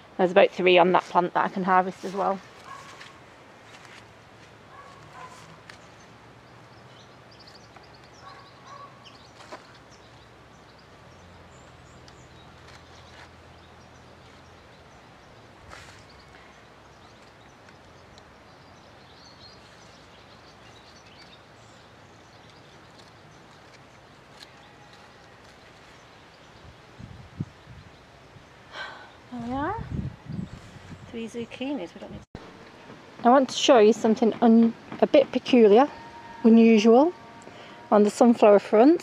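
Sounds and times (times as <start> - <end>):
distant bird calls: 2.0 - 39.0.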